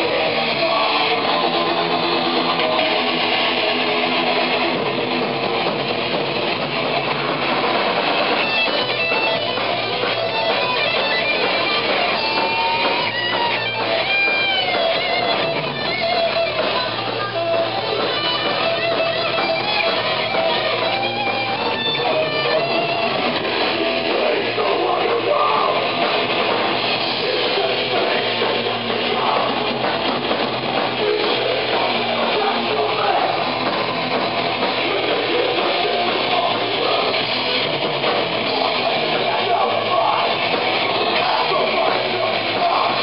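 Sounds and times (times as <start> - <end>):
distorted electric guitars: 0.0 - 43.0
drum kit: 0.0 - 43.0.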